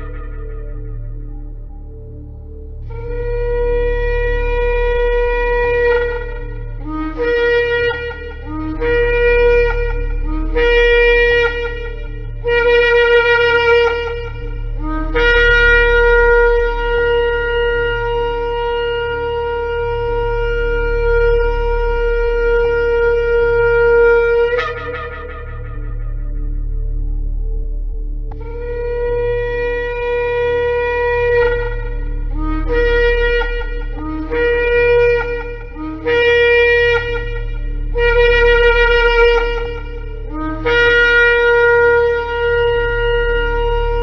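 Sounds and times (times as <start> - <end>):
ram's horn trumpet blasts: 2.9 - 26.6, 28.4 - 44.0.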